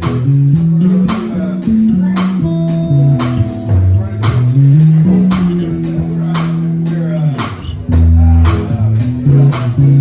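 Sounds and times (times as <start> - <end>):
bass guitar line: 0.0 - 10.0
guitar: 0.0 - 10.0
steady drum beat: 0.0 - 10.0.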